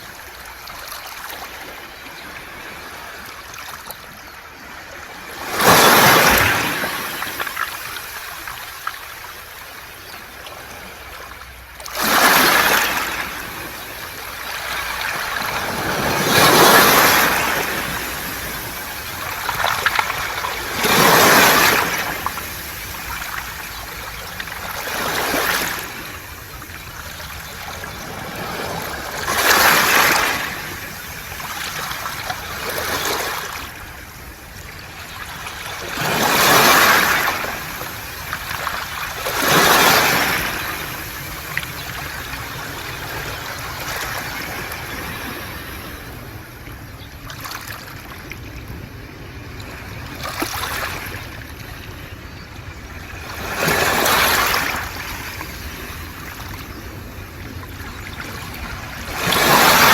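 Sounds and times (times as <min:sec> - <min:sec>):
waves washing over pebbles: 0:00.0 - 0:51.7, 0:52.8 - 0:59.9.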